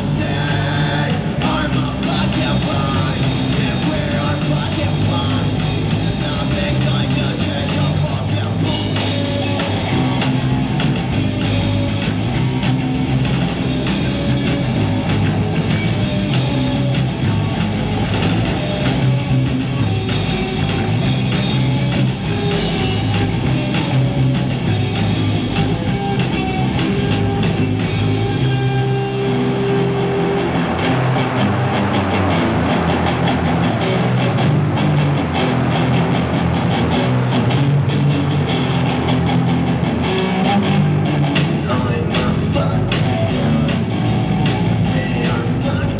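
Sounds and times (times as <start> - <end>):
rock band playing live: 0.0 - 45.9.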